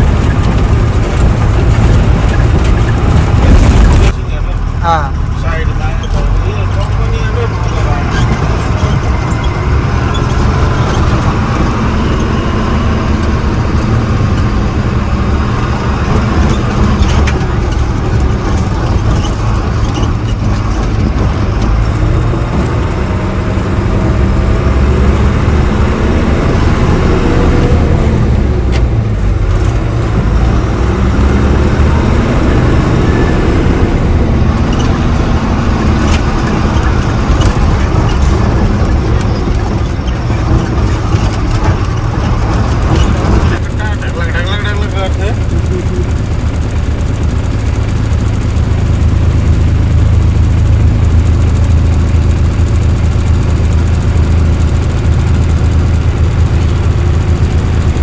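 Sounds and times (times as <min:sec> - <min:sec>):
road rumble: 0:00.0 - 0:58.0
truck engine running: 0:00.0 - 0:58.0.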